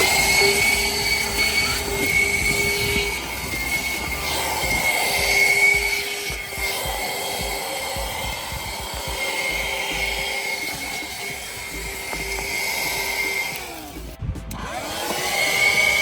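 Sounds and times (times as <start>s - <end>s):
handheld vacuum cleaner running: 0.0s - 16.0s.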